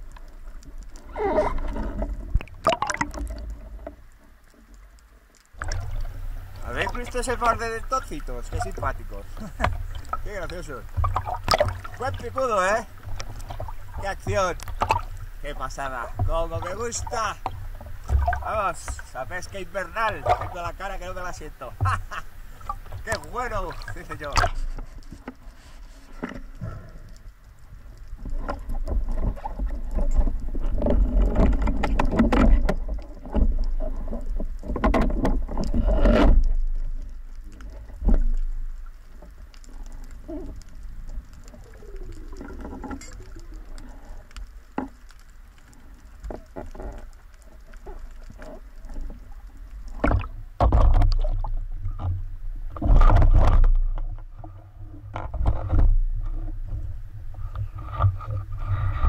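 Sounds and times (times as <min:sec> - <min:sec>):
sea water splashing: 0:00.0 - 0:59.0.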